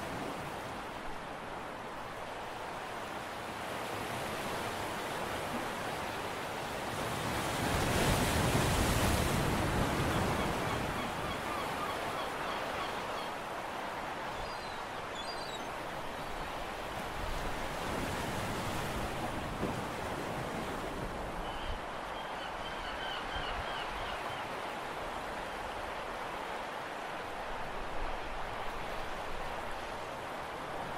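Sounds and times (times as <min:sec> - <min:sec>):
wind: 0:00.0 - 0:30.9.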